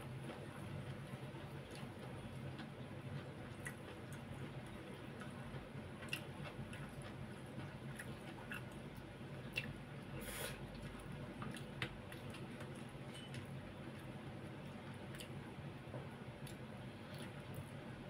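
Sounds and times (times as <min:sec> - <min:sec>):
person chewing food: 0:00.2 - 0:17.8.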